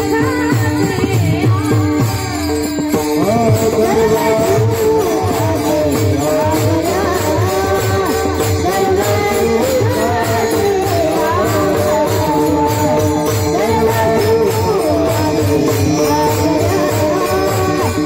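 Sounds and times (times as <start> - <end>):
harmonium drone: 0.0 - 18.0
person singing devotional song: 0.0 - 18.0.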